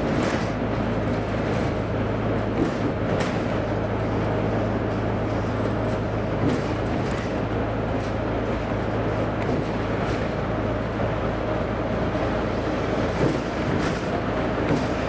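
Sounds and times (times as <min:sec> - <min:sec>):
bus diesel engine running: 0:00.0 - 0:15.0
road and tyre noise: 0:00.0 - 0:15.0.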